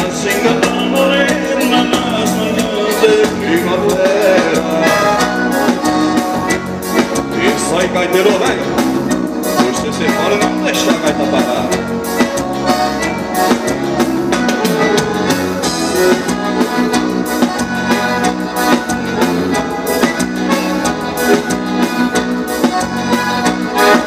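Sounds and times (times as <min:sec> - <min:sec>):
accordion: 0:00.0 - 0:24.0
bass: 0:00.0 - 0:24.0
drum kit: 0:00.0 - 0:24.0.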